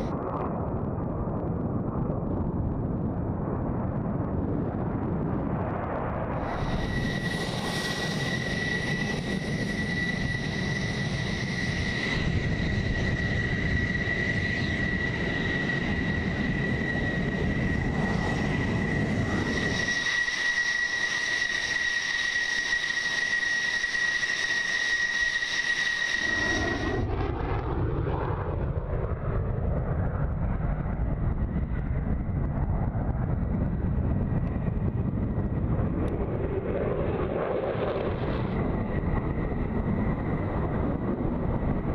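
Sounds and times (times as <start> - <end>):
deep jet roar taking off: 0.0 - 41.9
jet engine whine and rumble: 0.0 - 41.9.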